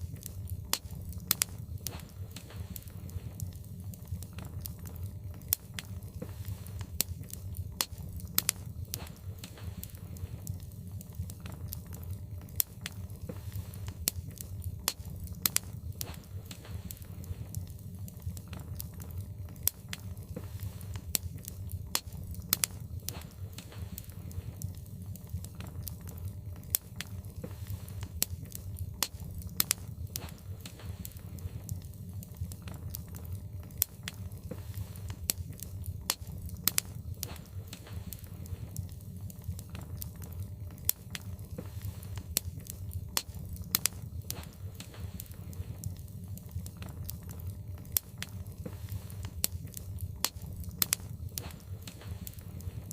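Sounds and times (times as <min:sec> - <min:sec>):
fire crackling and popping: 0:00.0 - 0:52.9
low sound of flames: 0:00.0 - 0:52.9.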